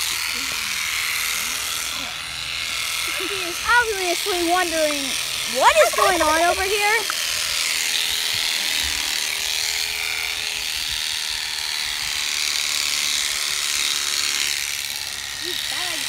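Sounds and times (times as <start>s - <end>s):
electric clippers buzzing: 0.0s - 16.0s.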